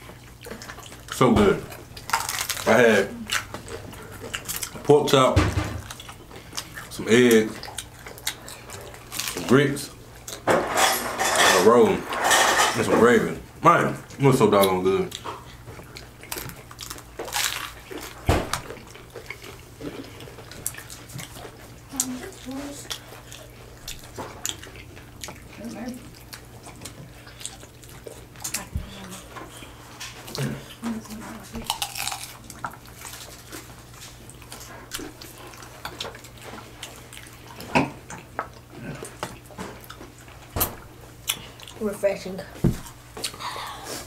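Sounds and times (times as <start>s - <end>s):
wet chewing and slurping: 0.0s - 4.9s, 5.8s - 10.5s, 14.1s - 41.8s.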